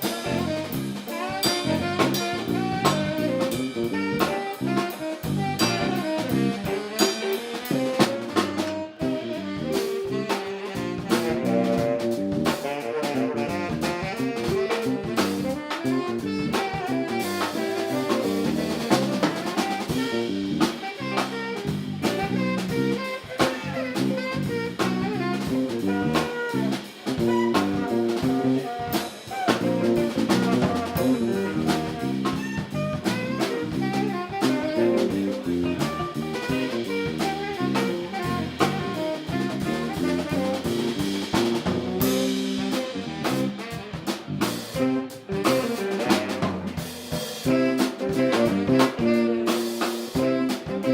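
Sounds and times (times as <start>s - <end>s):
live funk band playing: 0.0s - 50.9s.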